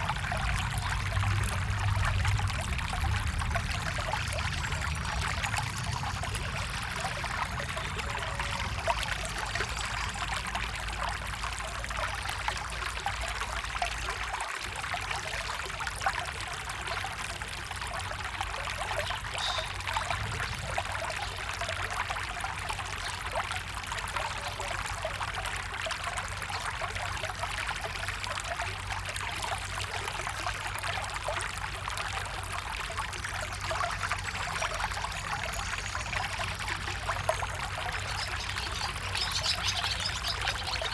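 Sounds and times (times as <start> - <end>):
stream trickling and splashing: 0.0 - 40.9.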